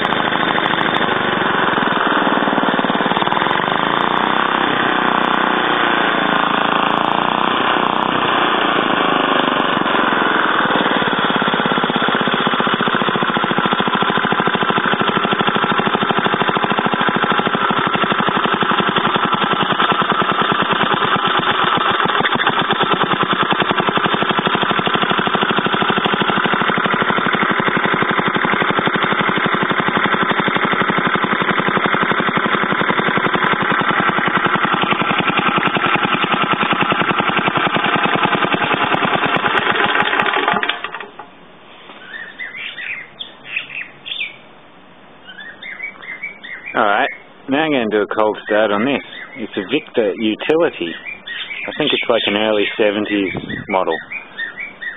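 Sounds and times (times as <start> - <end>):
small engine running: 0.0 - 41.3, 42.0 - 44.3, 45.4 - 54.9.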